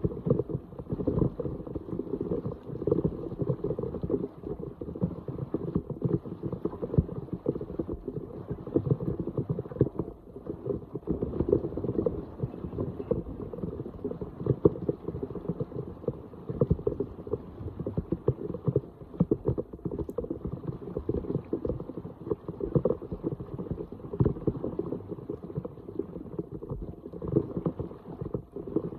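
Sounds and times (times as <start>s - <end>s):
floodwater splashing and gurgling: 0.0s - 28.9s.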